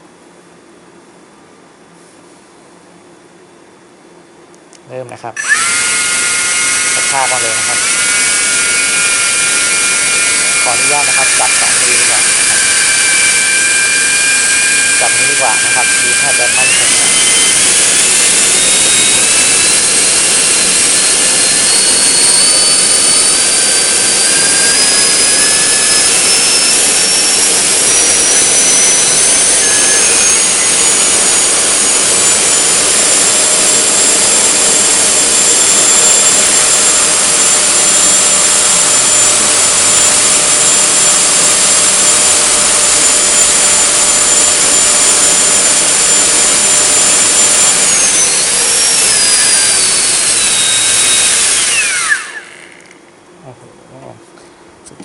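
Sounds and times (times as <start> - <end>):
electric ducted fan whine rising: 0.0 - 55.0.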